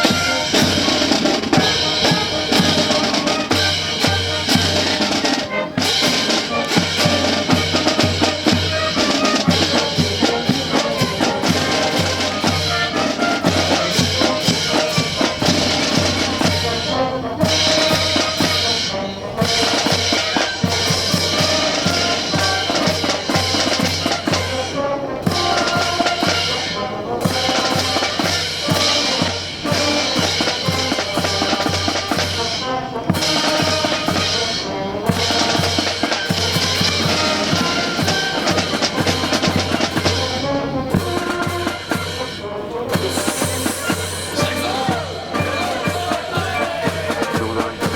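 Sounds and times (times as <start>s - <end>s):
bass drum and snare beat: 0.0s - 47.9s
brass band playing a march: 0.0s - 47.9s.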